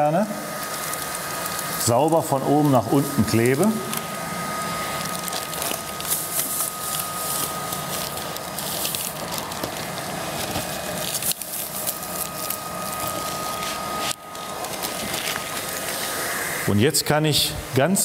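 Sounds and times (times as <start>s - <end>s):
thin constant whine: 0.0s - 18.0s
film peeling crackling and rustling: 0.4s - 16.2s.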